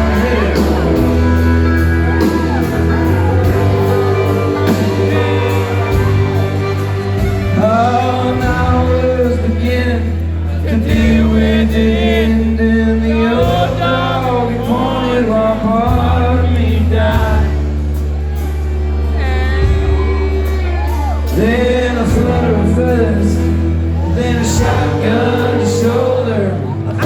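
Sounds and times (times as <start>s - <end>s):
male lead vocal: 0.0s - 18.0s, 19.0s - 27.0s
live country band playing: 0.0s - 27.0s.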